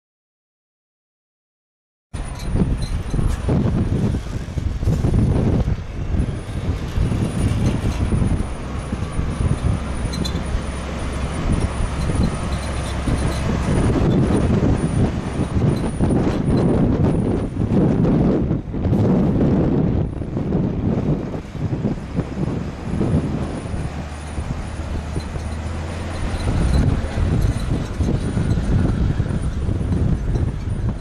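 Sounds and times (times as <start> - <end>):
diesel truck engine rumble: 2.2 - 31.0.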